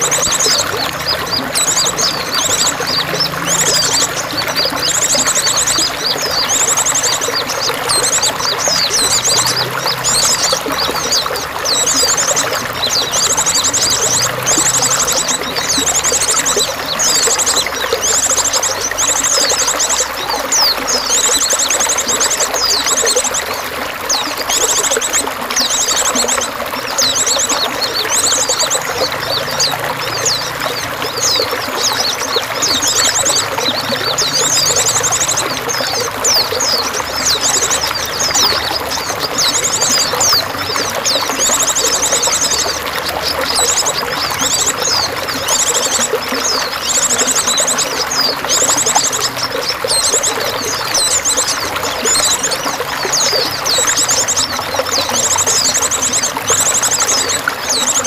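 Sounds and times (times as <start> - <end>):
running water trickling: 0.0 - 58.0
songbirds chirping: 0.0 - 58.0.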